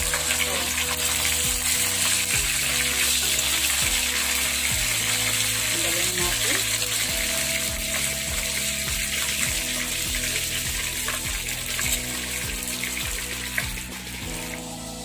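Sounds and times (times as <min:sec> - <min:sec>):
background music: 0:00.0 - 0:15.0
fish sizzling in hot oil: 0:00.0 - 0:15.0.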